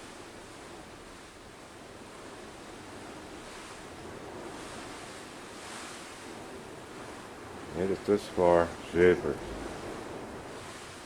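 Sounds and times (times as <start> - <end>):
strong gusting wind: 0.0 - 11.0.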